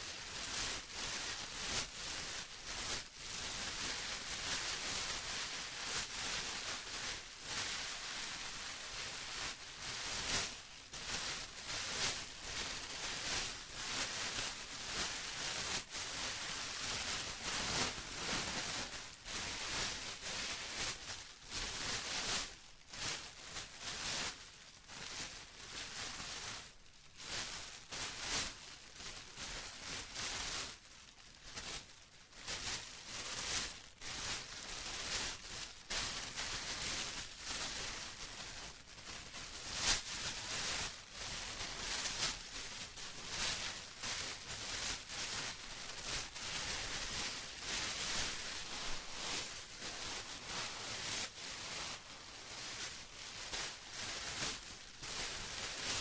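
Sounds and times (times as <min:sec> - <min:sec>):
plastic crinkling by hand: 0:00.0 - 0:56.0.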